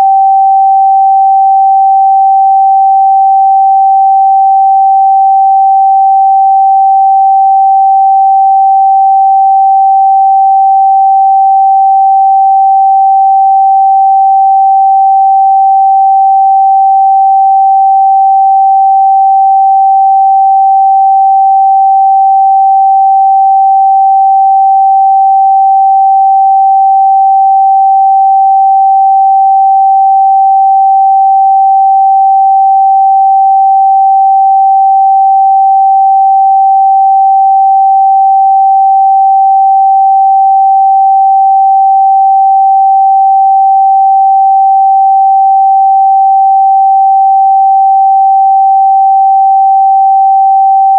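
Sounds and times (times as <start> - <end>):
sine-wave test tone: 0.0 - 50.9.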